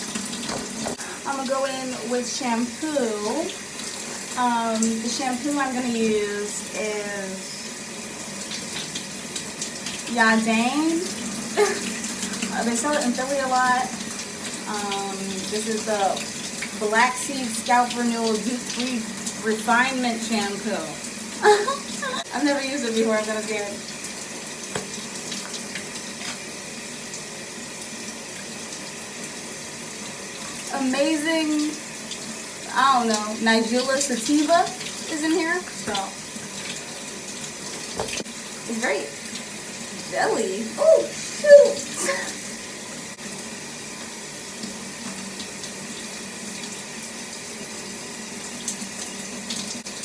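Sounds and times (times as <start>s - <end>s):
water running from tap: 0.0s - 50.0s.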